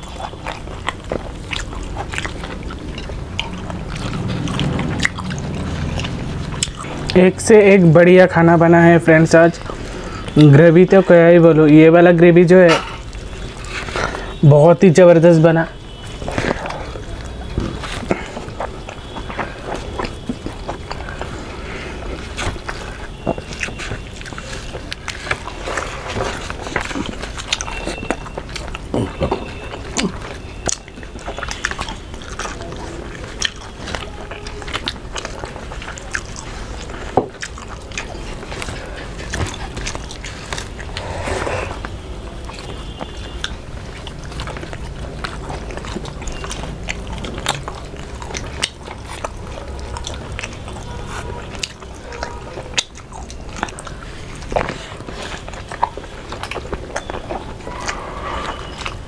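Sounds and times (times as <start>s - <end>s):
wet mouth clicks: 0.0s - 7.2s, 16.1s - 59.0s
people chewing food: 0.0s - 59.0s.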